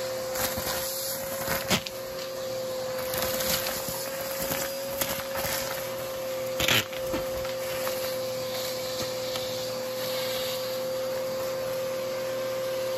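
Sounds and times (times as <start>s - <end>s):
debris crunching up vacuum tool: 0.0s - 12.9s
vacuum cleaner whining: 0.0s - 12.9s.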